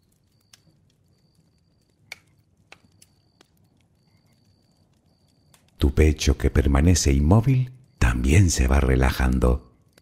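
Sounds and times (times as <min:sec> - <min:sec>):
campfire crackling: 0:00.0 - 0:10.0
low rumble of flame: 0:00.0 - 0:10.0.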